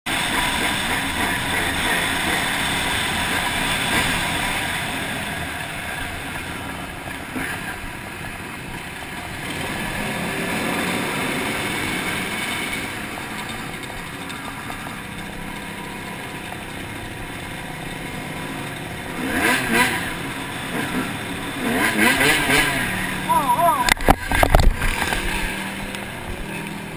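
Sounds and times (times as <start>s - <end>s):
dirt bike engine revving: 0.1s - 26.9s.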